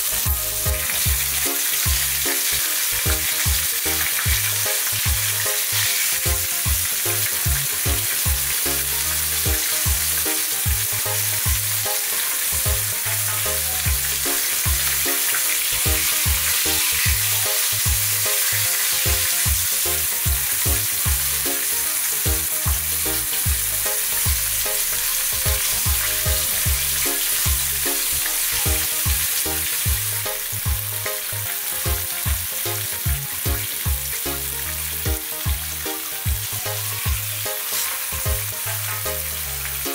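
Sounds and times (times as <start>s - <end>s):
background music with steady beat: 0.0s - 39.9s
fish sizzling in hot oil: 0.0s - 39.9s.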